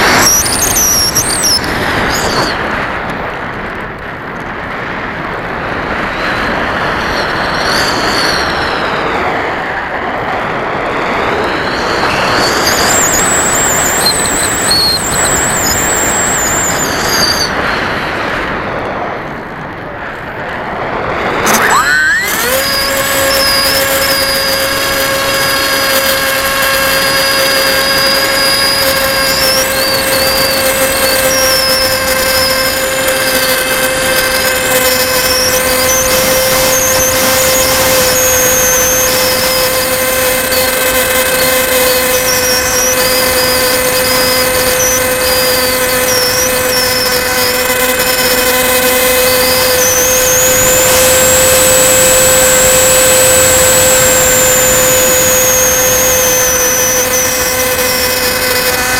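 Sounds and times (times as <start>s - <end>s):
air rushing past plane: 0.0s - 58.9s
electric motor propeller whine: 0.0s - 58.9s.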